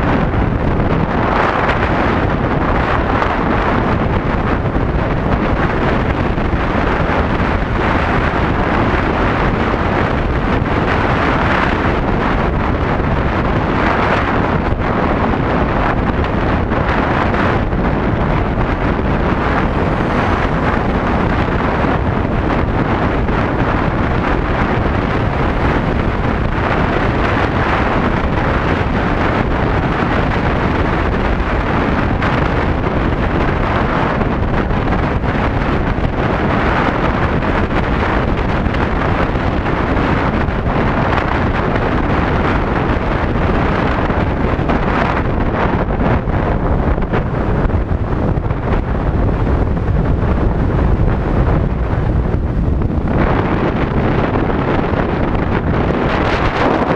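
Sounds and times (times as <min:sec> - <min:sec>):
road noise: 0:00.0 - 0:56.9
wind buffeting microphone: 0:00.0 - 0:56.9.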